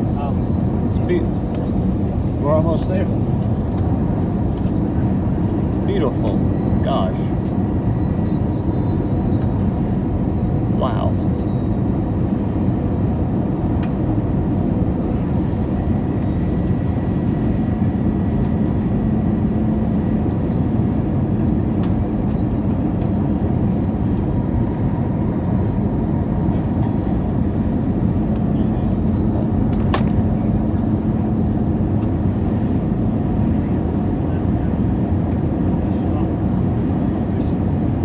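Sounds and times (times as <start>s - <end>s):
airliner cabin engine rush: 0.0s - 38.0s.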